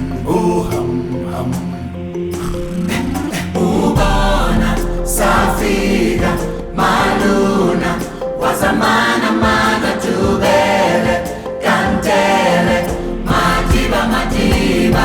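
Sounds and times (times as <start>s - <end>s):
choir singing with music: 0.0s - 15.0s.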